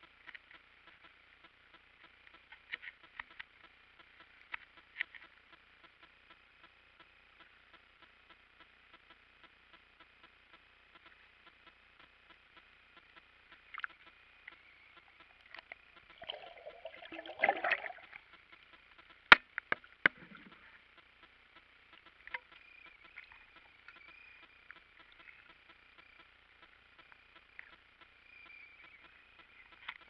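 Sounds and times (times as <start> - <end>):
faint high hum: 0.0 - 30.0.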